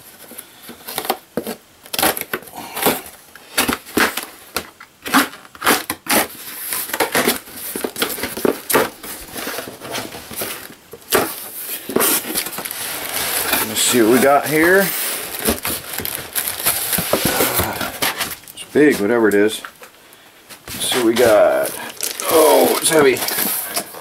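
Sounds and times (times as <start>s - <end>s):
packing tape tearing off cardboard: 0.0s - 18.5s, 20.6s - 24.0s.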